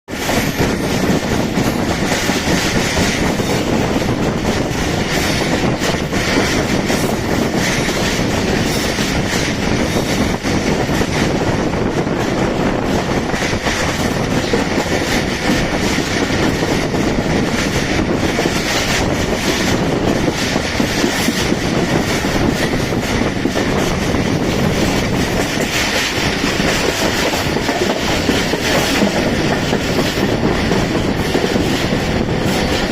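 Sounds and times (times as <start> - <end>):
train wheels rumbling: 0.1 - 32.9.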